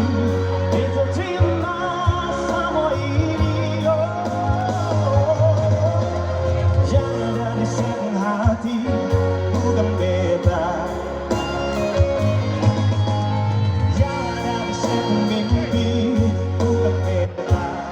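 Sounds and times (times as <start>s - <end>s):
pop song over loudspeakers: 0.0s - 17.9s.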